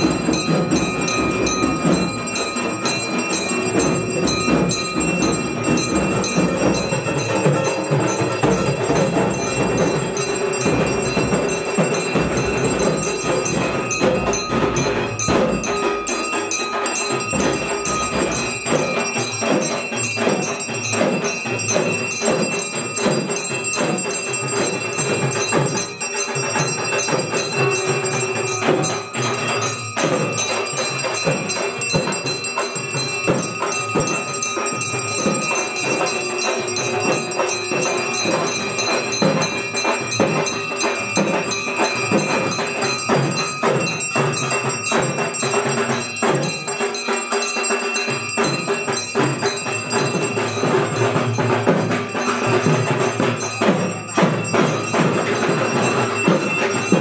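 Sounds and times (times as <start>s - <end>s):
bells ringing: 0.0s - 57.0s
rhythmic percussion: 0.0s - 57.0s.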